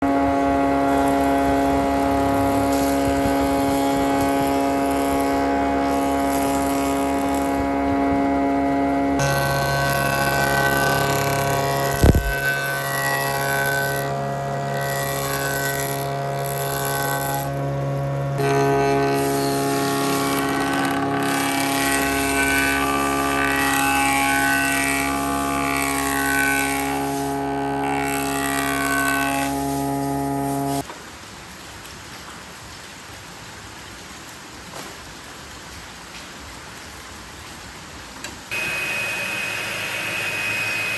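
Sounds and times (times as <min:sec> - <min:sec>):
power tool motor humming: 0:00.0 - 0:30.8, 0:38.5 - 0:40.9.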